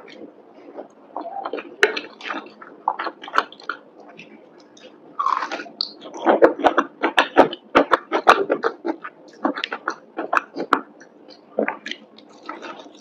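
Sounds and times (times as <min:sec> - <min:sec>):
chewing crispy fried chicken: 0:00.0 - 0:13.0.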